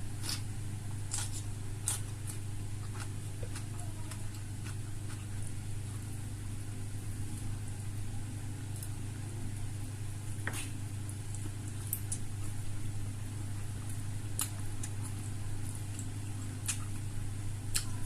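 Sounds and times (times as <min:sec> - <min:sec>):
chewing fried food: 0:00.0 - 0:18.0
steady low hum: 0:00.0 - 0:18.0.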